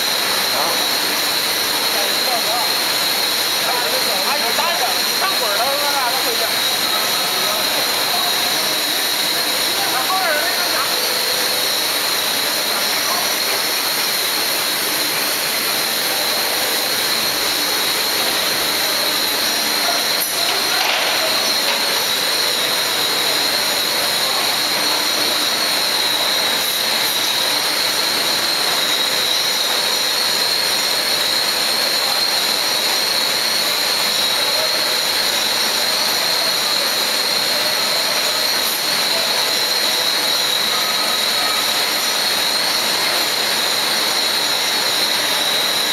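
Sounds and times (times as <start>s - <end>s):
high machine whine: 0.0s - 45.9s
machine hissing rush: 0.0s - 45.9s.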